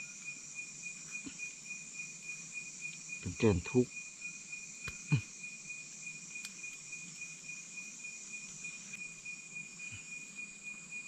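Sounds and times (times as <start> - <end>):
insects calling: 0.0 - 11.0.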